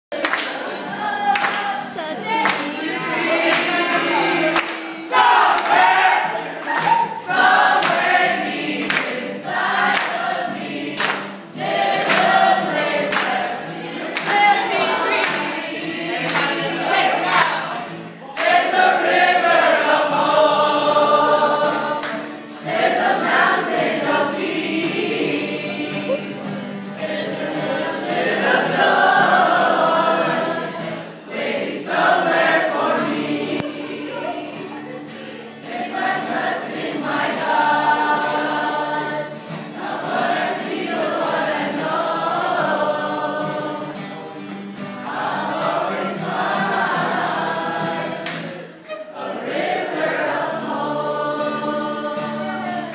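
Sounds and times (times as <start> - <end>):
choir singing: 0.1 - 52.9.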